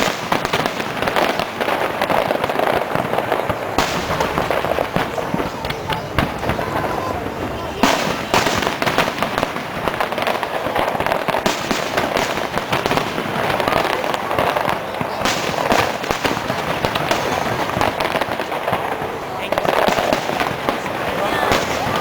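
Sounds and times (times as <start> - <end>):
fireworks bangs and crackling: 0.0 - 22.0
onlookers' voices: 0.0 - 22.0.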